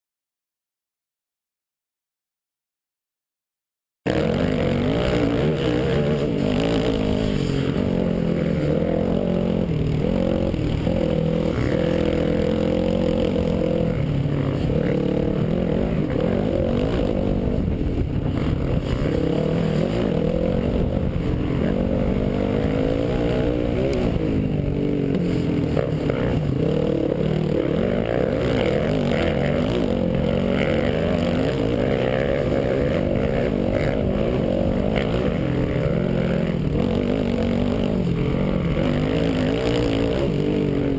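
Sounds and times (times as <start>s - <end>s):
dirt bike engine revving: 4.1s - 40.9s.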